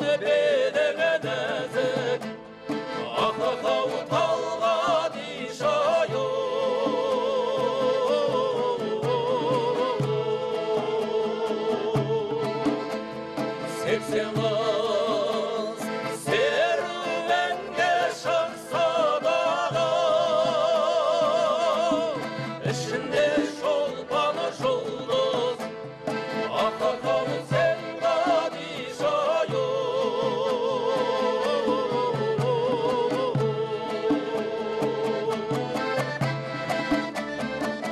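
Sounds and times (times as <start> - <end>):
person singing with vibrato: 0.0 - 36.3
instrumental accompaniment: 0.0 - 37.9.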